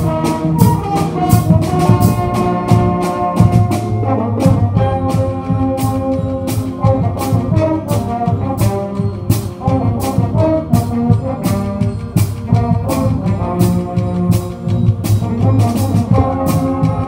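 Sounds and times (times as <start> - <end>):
drum and cymbal hits: 0.0 - 17.0
trombones and trumpets: 0.0 - 17.0.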